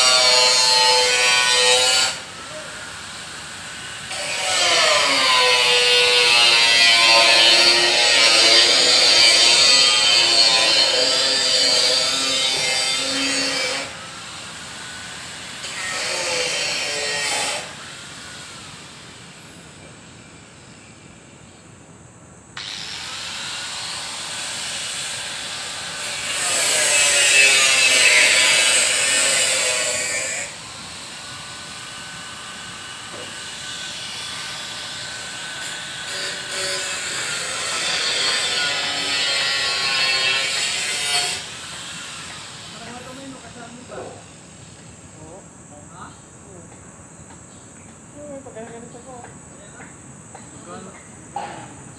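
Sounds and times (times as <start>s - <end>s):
power tools working: 0.0s - 20.2s, 22.6s - 44.4s.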